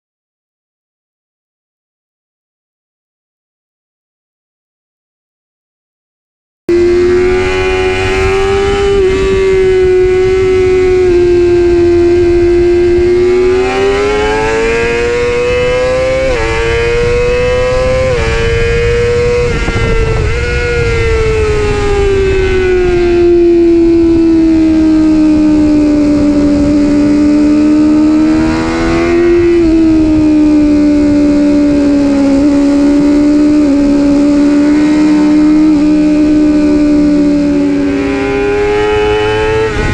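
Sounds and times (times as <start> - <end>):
motorcycle engine at high revs: 6.7 - 39.9.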